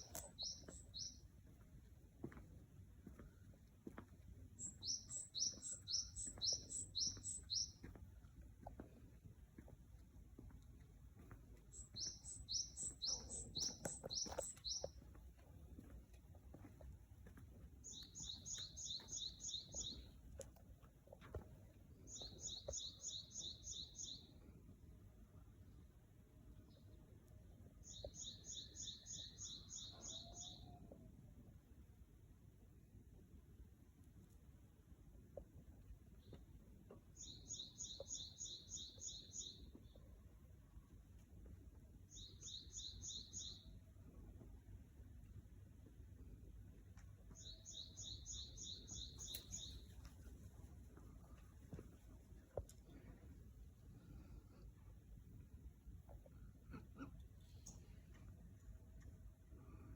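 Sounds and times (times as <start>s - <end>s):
songbird chirping faintly: 0.0s - 31.2s, 35.2s - 59.9s.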